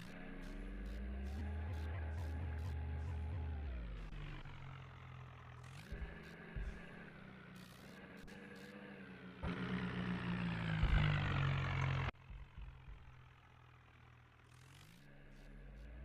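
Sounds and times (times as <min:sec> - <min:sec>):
tractor engine revving: 0:00.0 - 0:16.0.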